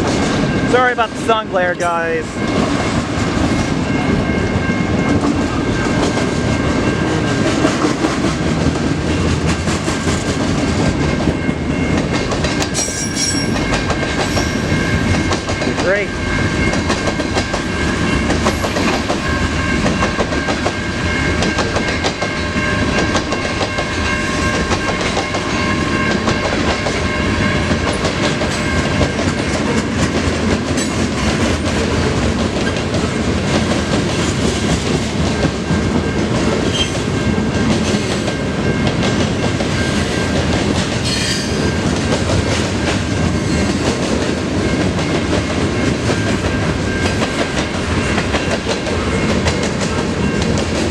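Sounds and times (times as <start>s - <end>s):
freight train wheels clattering: 2.3s - 50.9s.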